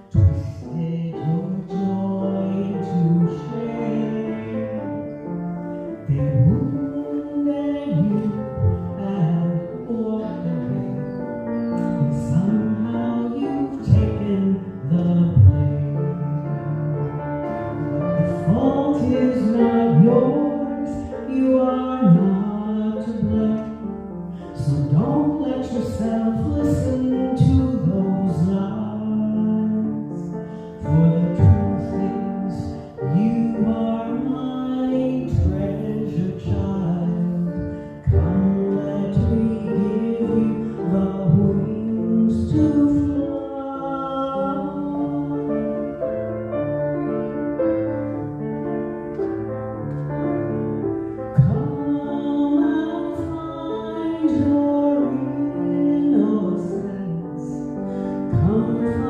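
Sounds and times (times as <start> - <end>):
piano accompaniment: 0.0 - 59.0.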